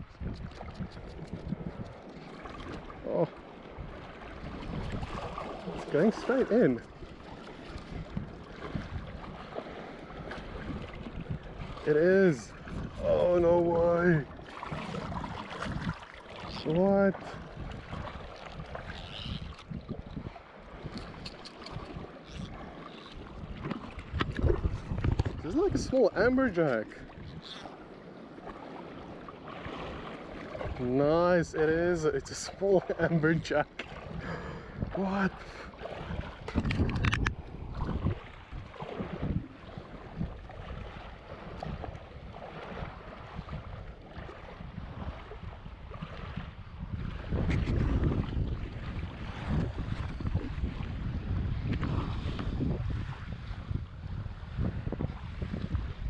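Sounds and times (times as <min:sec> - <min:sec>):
wind buffeting microphone: 0:00.0 - 0:27.6, 0:28.5 - 0:56.0
sea washing on shore: 0:00.0 - 0:56.0.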